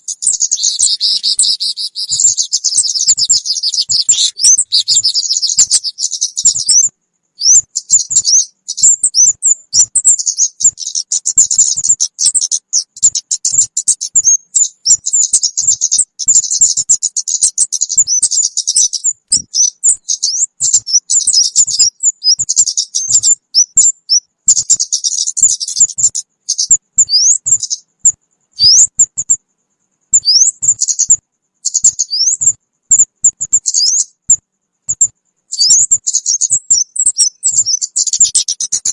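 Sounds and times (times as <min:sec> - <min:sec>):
high-pitched bird chirping chatter: 0:00.0 - 0:29.4, 0:30.1 - 0:38.9.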